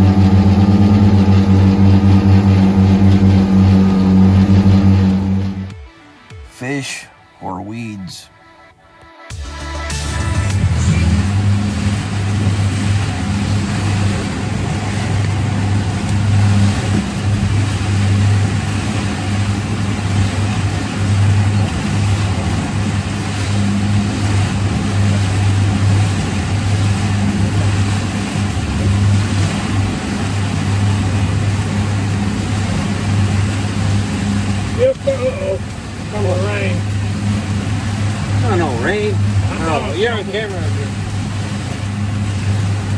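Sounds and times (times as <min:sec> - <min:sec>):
engine humming under load: 0:00.0 - 0:05.8, 0:10.0 - 0:42.9.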